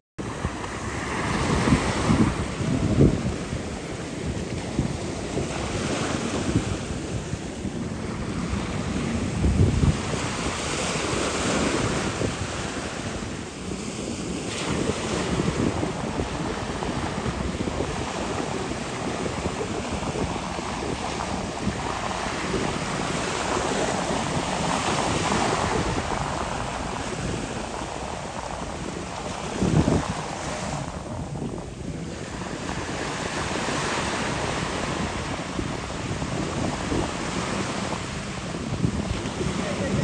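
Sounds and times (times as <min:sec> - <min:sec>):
rushing water: 0:00.2 - 0:40.0
wind buffeting microphone: 0:00.2 - 0:40.0.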